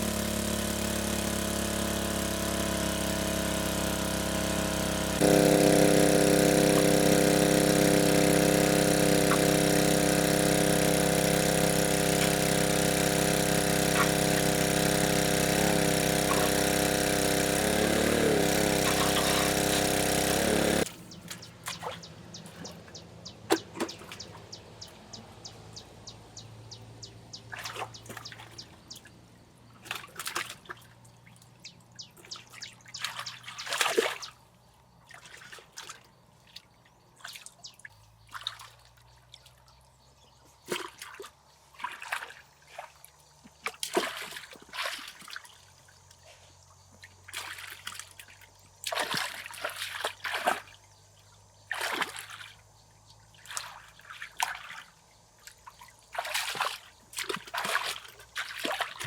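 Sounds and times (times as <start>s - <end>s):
water splashing and trickling: 0.0s - 22.9s, 27.4s - 59.0s.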